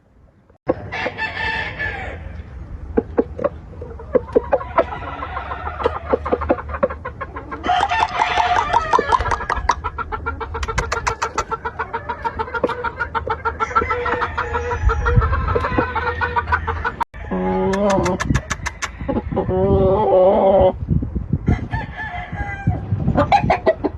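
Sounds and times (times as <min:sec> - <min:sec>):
roosters crowing: 0:00.7 - 0:02.5, 0:04.1 - 0:20.8, 0:21.4 - 0:23.7
chickens clucking: 0:00.7 - 0:21.0, 0:22.7 - 0:23.9.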